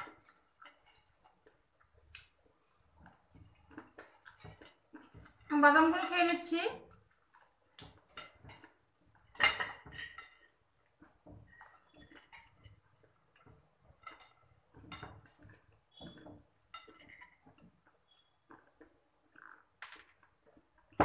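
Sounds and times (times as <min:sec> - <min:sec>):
fingers clinking on ceramic plates: 0:03.1 - 0:20.2.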